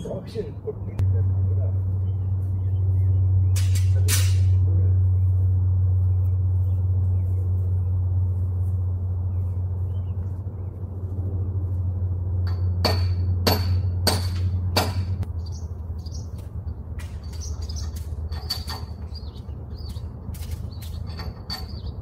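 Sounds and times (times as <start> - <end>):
birds chirping: 0.0 - 22.0
low steady rumble: 0.0 - 22.0.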